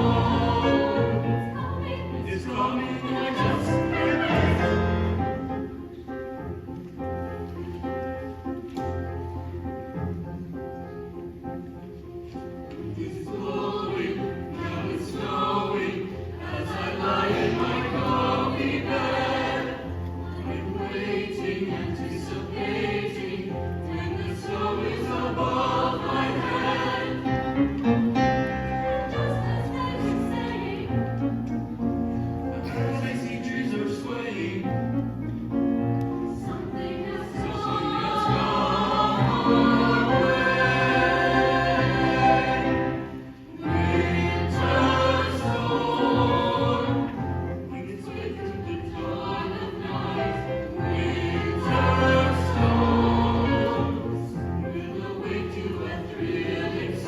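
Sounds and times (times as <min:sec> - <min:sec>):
mixed choir singing: 0:00.0 - 0:06.3, 0:12.7 - 0:57.0.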